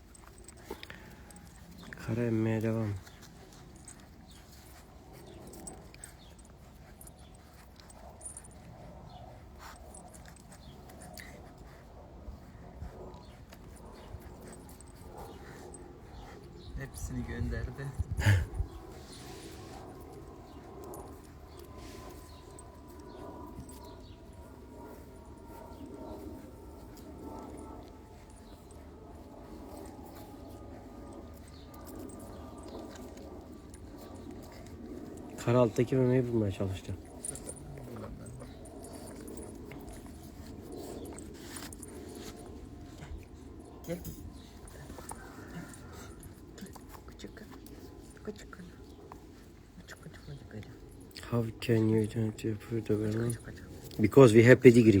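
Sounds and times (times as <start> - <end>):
puppies whimpering and grunting: 0.0 - 55.0.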